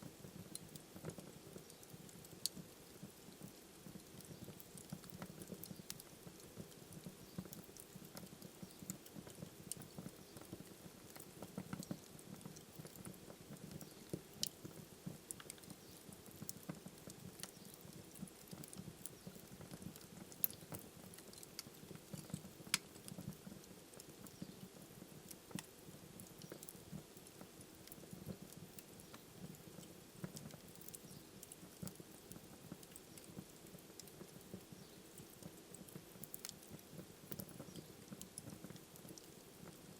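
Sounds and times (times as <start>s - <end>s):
fire crackling and popping: 0.0s - 39.9s
low rumble of flames: 0.1s - 39.9s.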